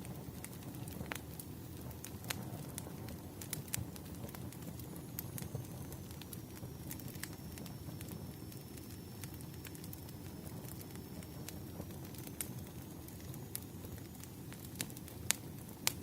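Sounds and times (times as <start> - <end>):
firewood crackling and popping: 0.0 - 16.0
low rumble of fire: 0.0 - 16.0.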